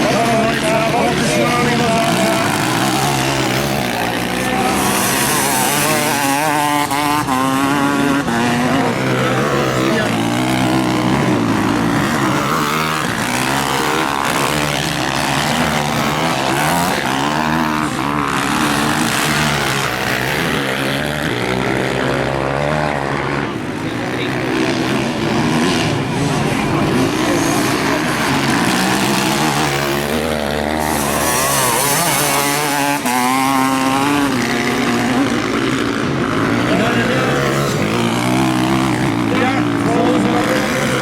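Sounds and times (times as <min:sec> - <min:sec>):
motocross bike engines revving: 0:00.0 - 0:41.0.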